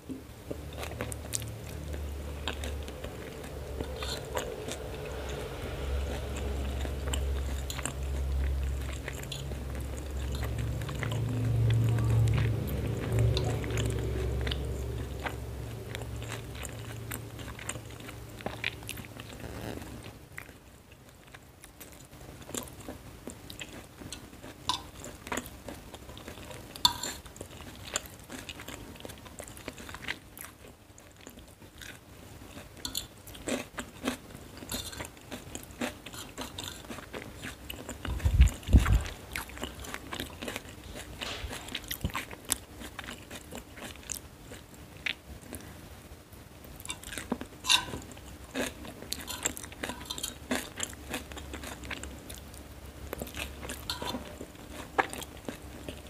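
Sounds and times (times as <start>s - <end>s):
low background rumble: 0.0s - 24.0s, 34.6s - 56.0s
chewing fried noodles: 0.4s - 56.0s.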